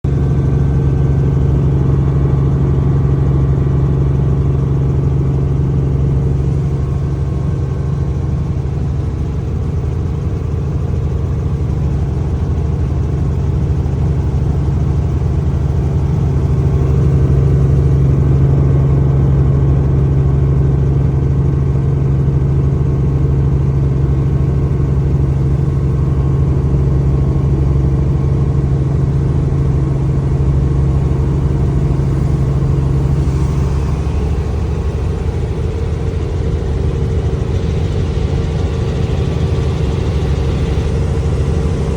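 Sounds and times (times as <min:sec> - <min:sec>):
helicopter engine and rotors: 0:00.0 - 0:41.9.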